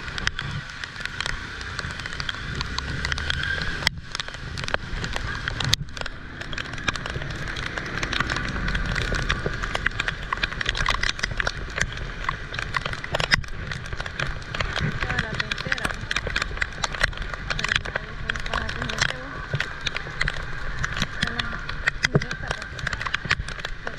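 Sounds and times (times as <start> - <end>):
heavy rain falling: 0.0 - 23.9.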